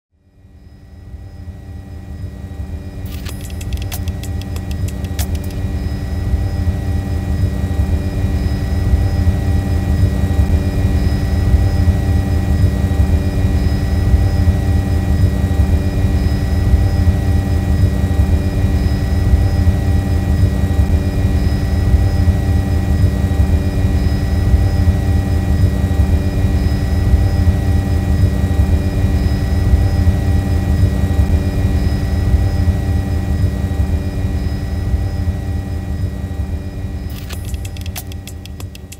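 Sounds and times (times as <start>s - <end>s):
drone motors whining: 2.1s - 38.9s.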